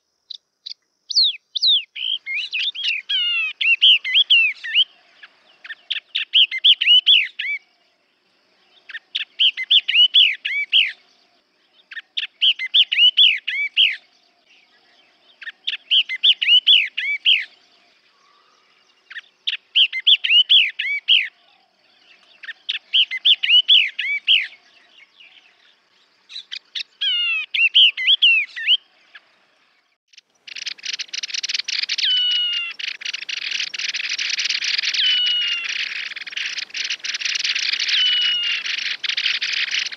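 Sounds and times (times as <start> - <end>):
bird singing whistled notes: 0.3 - 7.8, 8.6 - 39.9.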